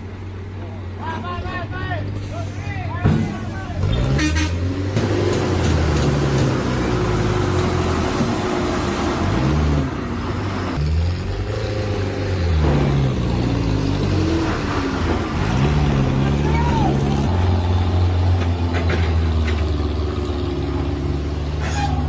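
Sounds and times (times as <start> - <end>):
engine revving: 3.7 - 22.0.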